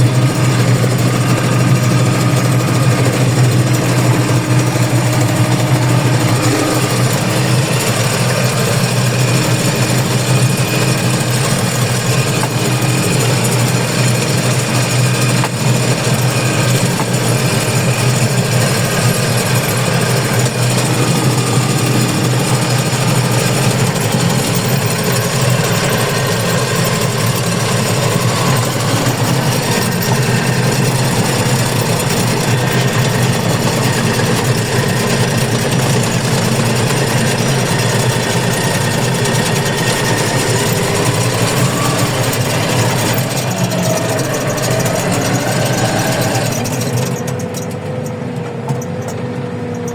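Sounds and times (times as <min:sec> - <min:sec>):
machinery engine droning with rattle: 0:00.0 - 0:49.9.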